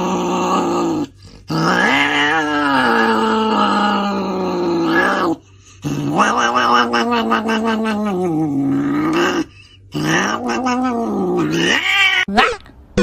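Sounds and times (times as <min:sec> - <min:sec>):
angry cat growling: 0:00.0 - 0:12.6.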